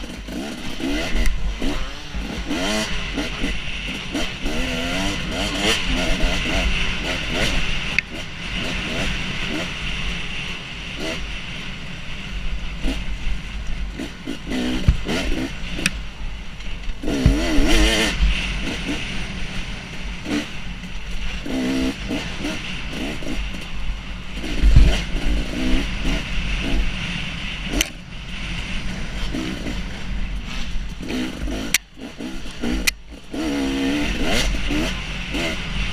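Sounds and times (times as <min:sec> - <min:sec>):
dirt bike engine revving: 0:00.0 - 0:35.9
wind rumble on microphone: 0:00.0 - 0:35.9.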